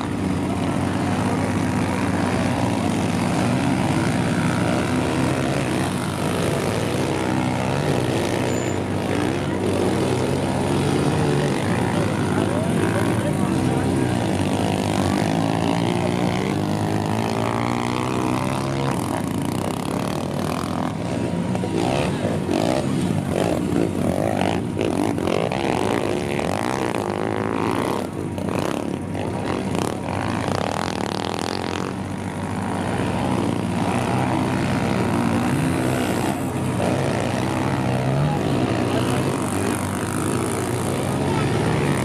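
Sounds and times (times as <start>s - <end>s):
motorbike engines revving: 0.0s - 42.0s.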